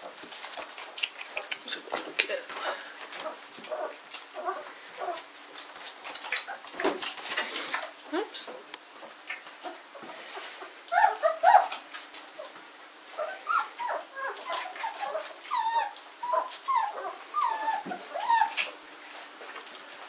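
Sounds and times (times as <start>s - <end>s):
puppies squeaking and whimpering: 0.4s - 8.2s, 9.0s - 19.4s.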